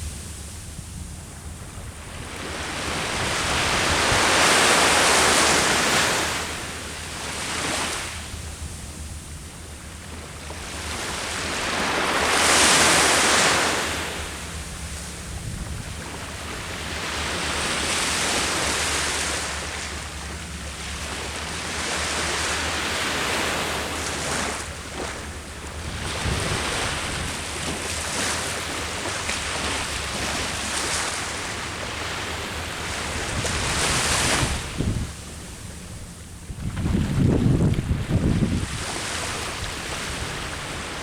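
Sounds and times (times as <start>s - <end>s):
wind on microphone: 0.0s - 9.6s, 10.5s - 19.4s, 23.0s - 31.6s, 32.7s - 41.0s
sea waves breaking: 0.0s - 41.0s.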